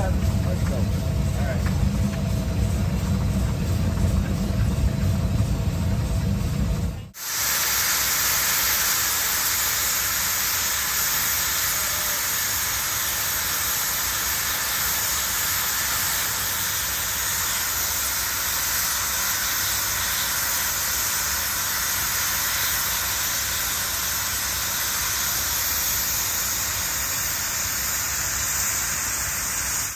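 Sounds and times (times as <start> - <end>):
steam hissing from boiler: 0.0 - 29.9.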